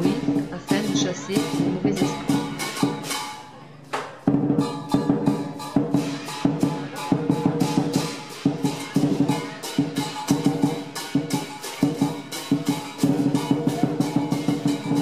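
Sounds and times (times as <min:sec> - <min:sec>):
big drum beaten fast: 0:00.0 - 0:03.2, 0:04.3 - 0:15.0
cymbal crashes: 0:00.0 - 0:03.5, 0:04.3 - 0:15.0.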